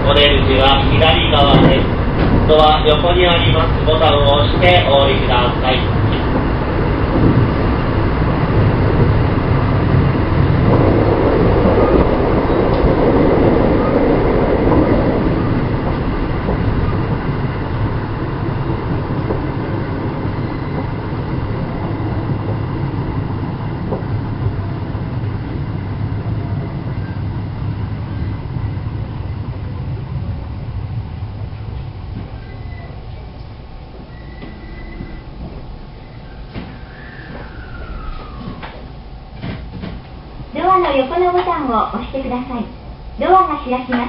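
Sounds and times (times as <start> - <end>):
electric train rumbling on rails: 0.0 - 44.0.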